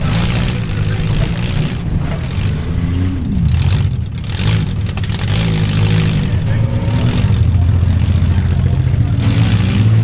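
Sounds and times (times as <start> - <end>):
car engines revving hard: 0.0 - 10.0.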